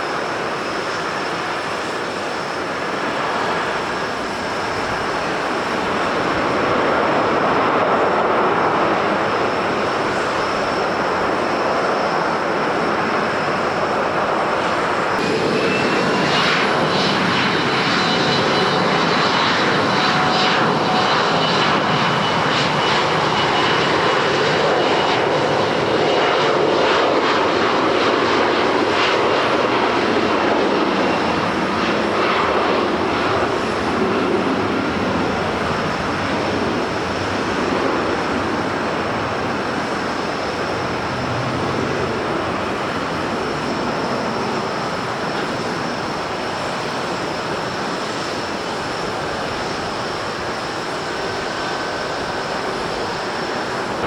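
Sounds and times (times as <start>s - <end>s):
airliner engines rushing: 0.0s - 54.0s.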